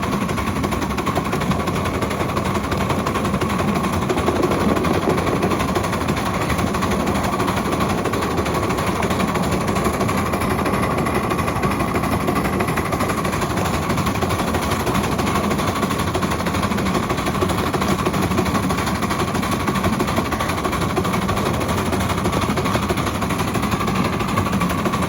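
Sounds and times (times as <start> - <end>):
miniature train clattering: 0.0 - 25.0.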